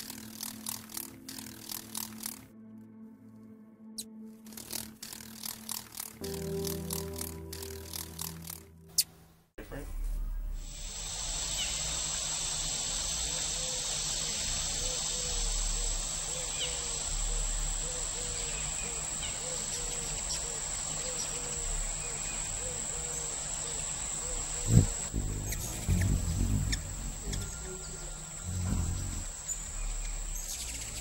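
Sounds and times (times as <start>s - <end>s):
high-pitched insect trill: 0.0s - 2.5s, 4.5s - 8.6s, 10.8s - 31.0s
outdoor ambient hiss: 0.0s - 2.8s, 4.3s - 31.0s.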